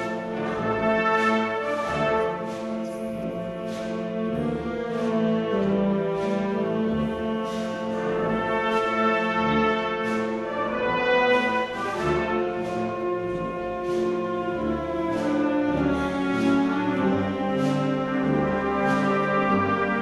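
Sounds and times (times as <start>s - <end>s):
brass band playing slow march: 0.0s - 20.0s
percussion strokes: 0.0s - 20.0s.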